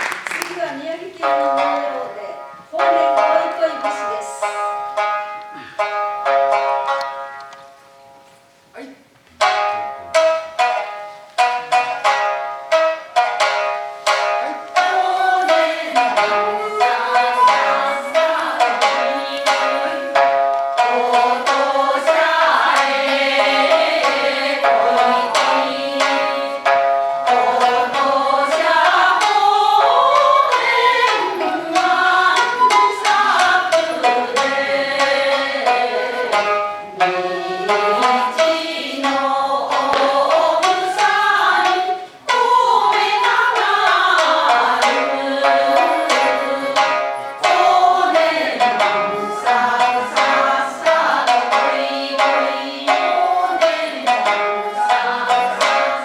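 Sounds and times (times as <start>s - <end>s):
plucked shamisen: 0.0s - 56.0s
voices singing folk song: 0.9s - 6.0s, 10.1s - 56.0s.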